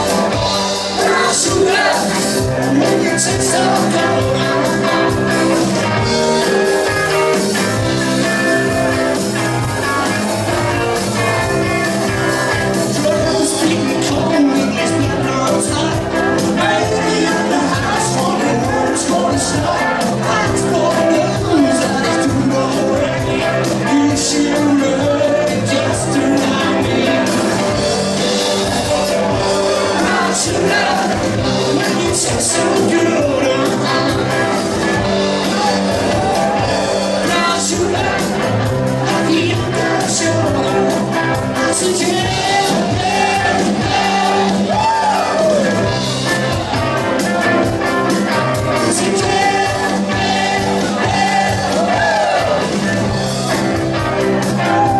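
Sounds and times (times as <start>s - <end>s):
person singing lead vocal: 0.0s - 7.7s, 10.9s - 45.9s, 48.3s - 53.7s
live rock band playing: 0.0s - 54.9s.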